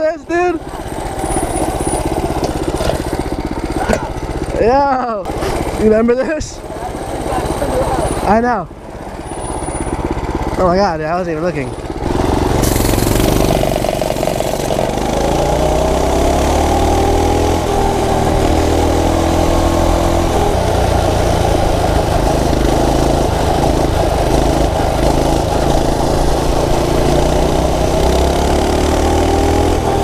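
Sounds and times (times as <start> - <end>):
mini bike engine running: 0.2 - 30.0.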